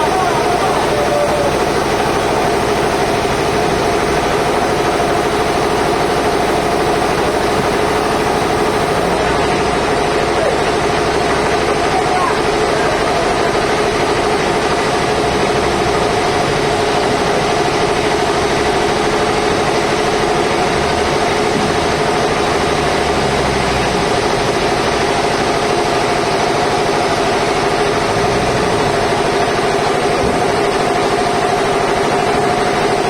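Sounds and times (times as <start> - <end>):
sawmill machinery humming: 0.0 - 33.0.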